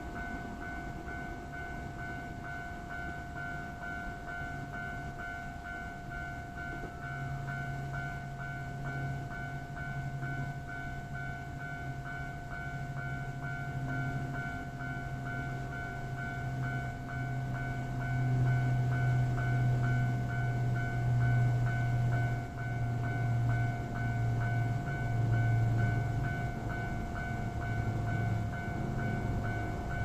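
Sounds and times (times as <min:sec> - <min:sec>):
level crossing bell ringing: 0:00.0 - 0:30.0
train rumbling: 0:00.0 - 0:30.0.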